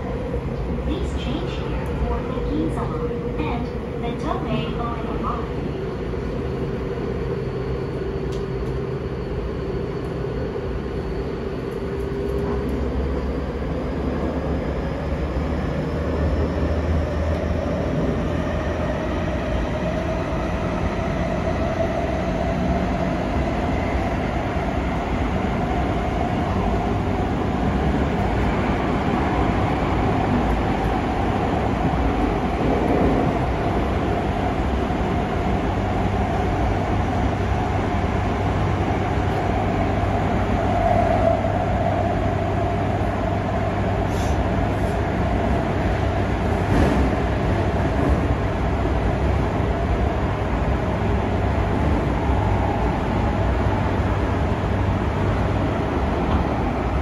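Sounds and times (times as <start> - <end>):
wheel and rail rumble: 0.0 - 57.0.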